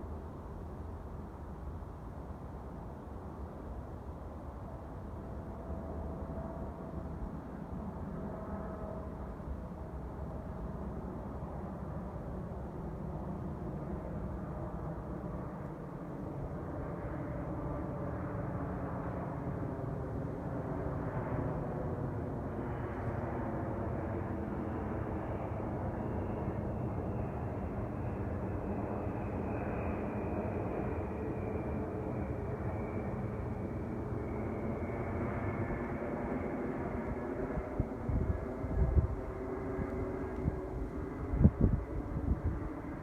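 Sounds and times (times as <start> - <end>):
jet engines rumbling overhead: 0.0 - 43.0.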